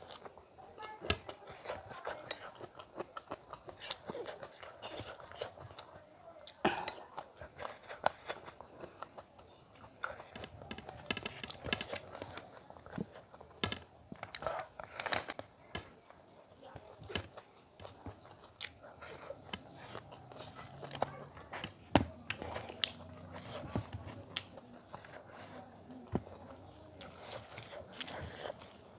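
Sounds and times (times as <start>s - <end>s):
fingers mixing rice on plate: 0.0s - 28.9s
wet chewing: 1.1s - 15.5s, 16.8s - 28.9s.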